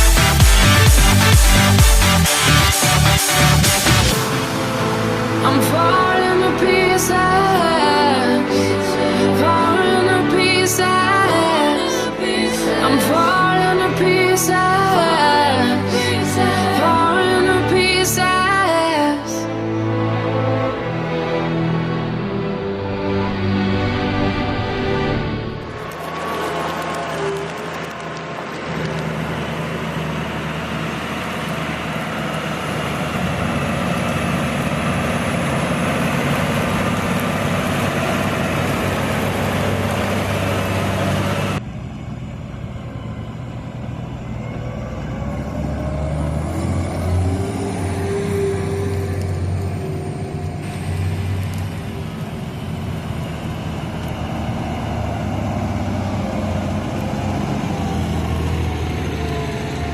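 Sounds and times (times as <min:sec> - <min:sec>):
quieter engine note: 0:00.0 - 0:59.9
tractor diesel engine running: 0:00.0 - 0:59.9.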